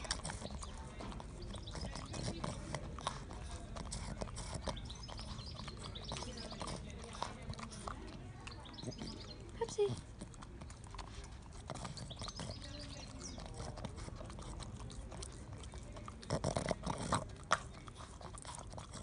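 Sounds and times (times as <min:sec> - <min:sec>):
dog licking: 0:00.0 - 0:19.0.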